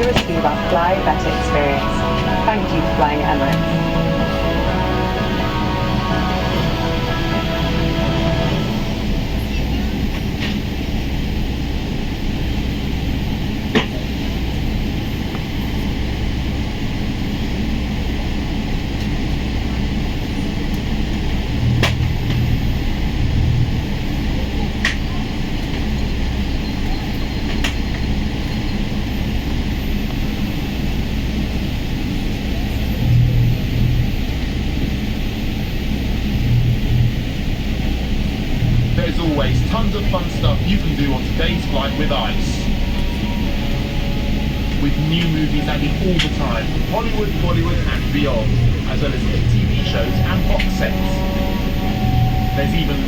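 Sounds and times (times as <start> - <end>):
airliner cabin engine rumble: 0.0 - 53.0.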